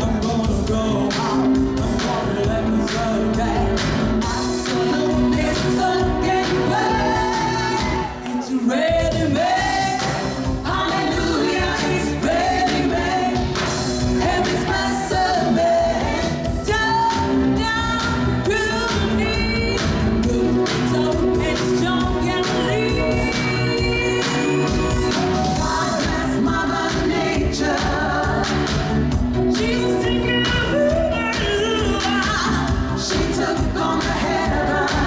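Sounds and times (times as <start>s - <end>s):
loud backing music: 0.0s - 35.0s
woman singing pop song: 0.0s - 35.0s.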